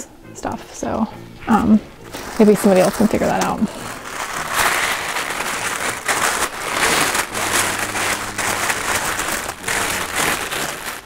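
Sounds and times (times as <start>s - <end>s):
wrapping rustling and crinkling: 1.5s - 11.0s.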